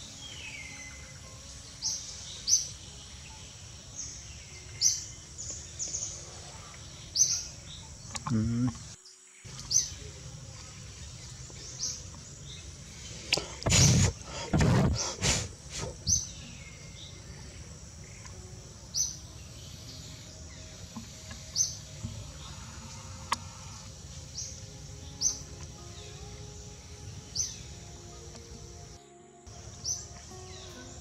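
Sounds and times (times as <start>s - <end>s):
bird chirping: 0.0s - 31.0s
steady background hiss: 0.0s - 31.0s.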